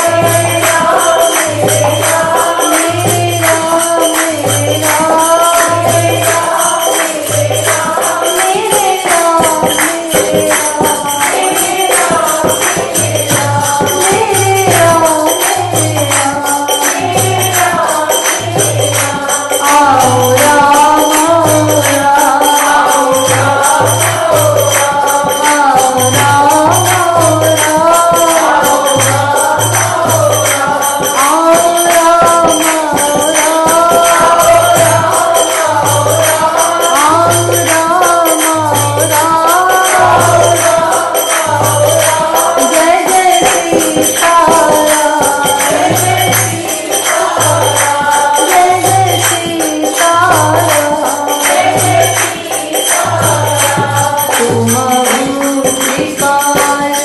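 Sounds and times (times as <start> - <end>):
jingling percussion: 0.0 - 57.0
woman singing into a microphone: 0.0 - 57.0.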